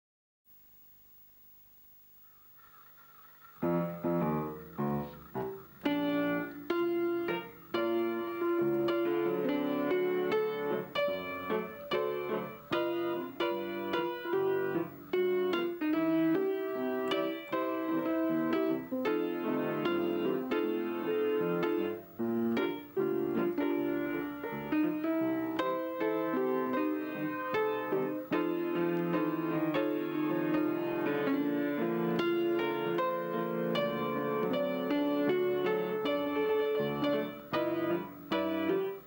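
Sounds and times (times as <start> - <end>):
piano music: 3.6 - 39.0.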